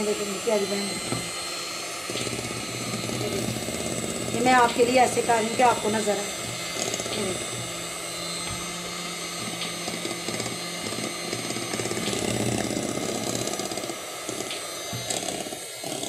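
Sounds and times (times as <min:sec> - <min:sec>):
electric hand mixer whirring: 0:00.0 - 0:16.0.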